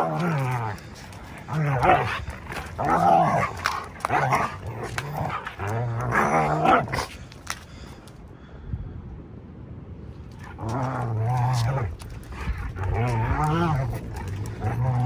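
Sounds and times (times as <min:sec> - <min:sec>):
dogs growling and snarling: 0:00.0 - 0:07.4, 0:10.3 - 0:15.0.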